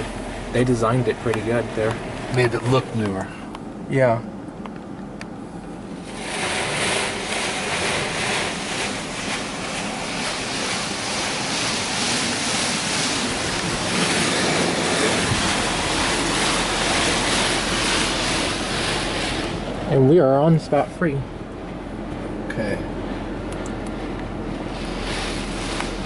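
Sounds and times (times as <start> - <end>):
high-pressure water spraying car: 0.0 - 3.3, 5.5 - 26.0.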